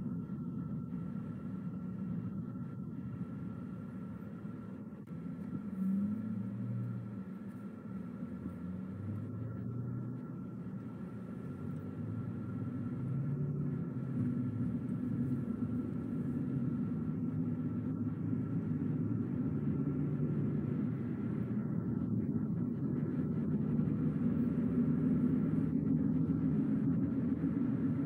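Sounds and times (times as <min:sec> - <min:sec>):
car engine and tyres rumbling: 0:00.0 - 0:28.0
faint steady whine: 0:00.0 - 0:28.0.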